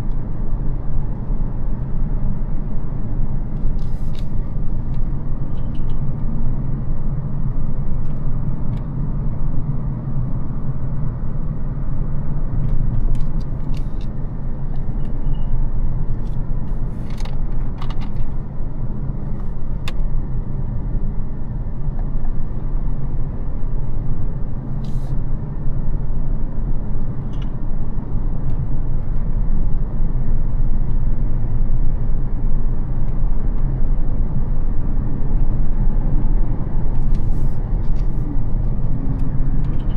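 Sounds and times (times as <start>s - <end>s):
car engine droning: 0.0s - 39.9s
tyre and road noise: 0.0s - 39.9s.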